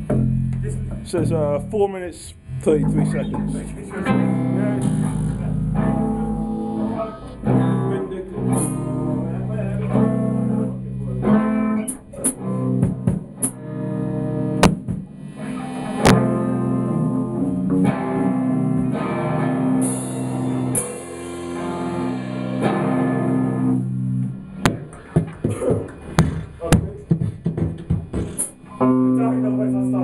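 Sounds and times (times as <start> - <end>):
punk rock electric guitar chords: 0.0 - 1.8, 2.4 - 30.0.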